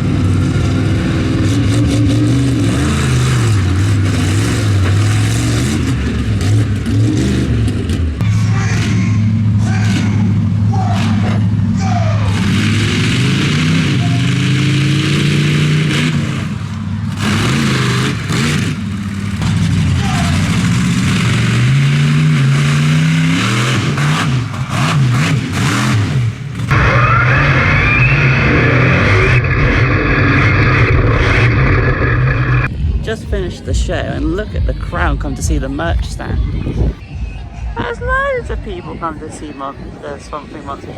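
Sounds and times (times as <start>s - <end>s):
monster truck engine revving: 0.0s - 37.1s.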